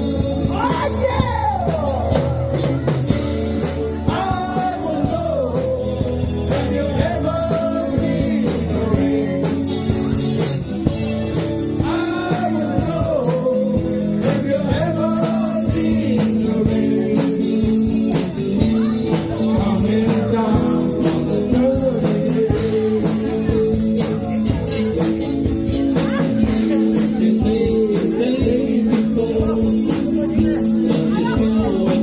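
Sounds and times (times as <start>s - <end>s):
person singing: 0.0s - 10.4s, 11.7s - 32.0s
guitar: 0.0s - 32.0s
steady drum beat: 0.0s - 32.0s.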